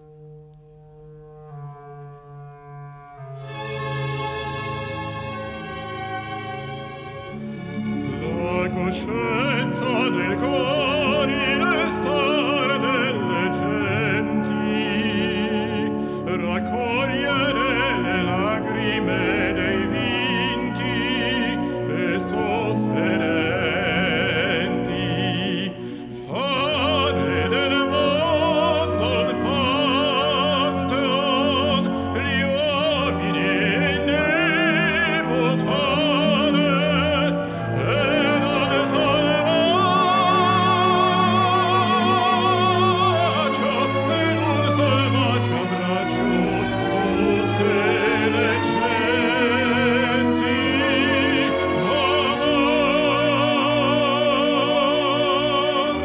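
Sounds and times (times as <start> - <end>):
instrumental accompaniment: 0.0 - 56.0
baritone opera singing: 8.0 - 56.0.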